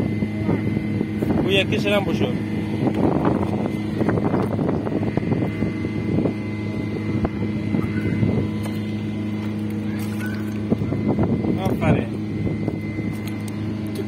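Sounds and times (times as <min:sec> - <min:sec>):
wind on microphone: 0:00.0 - 0:13.8
low machine hum: 0:00.0 - 0:14.0.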